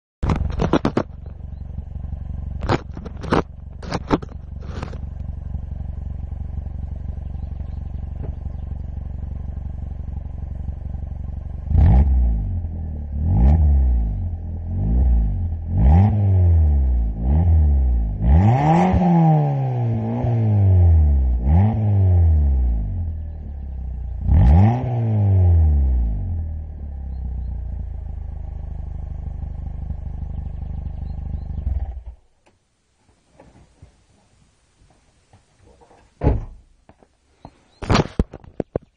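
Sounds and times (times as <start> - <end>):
car engine idling and revving: 0.2 - 32.3.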